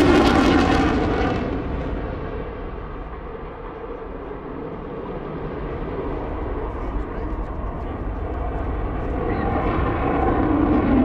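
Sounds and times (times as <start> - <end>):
jet engine roar: 0.0 - 11.0
low jet rumble: 0.0 - 11.0.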